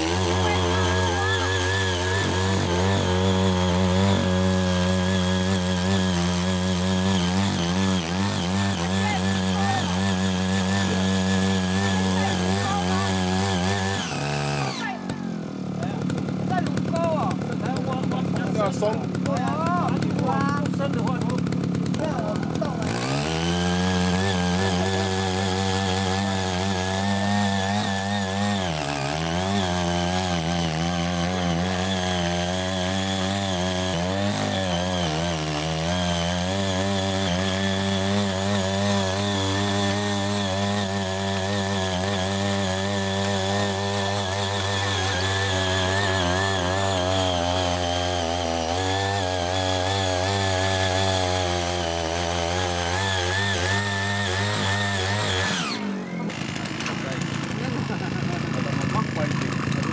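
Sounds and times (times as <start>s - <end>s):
small petrol engine running hard: 0.0s - 59.9s
tiller tines digging ground: 0.0s - 59.9s.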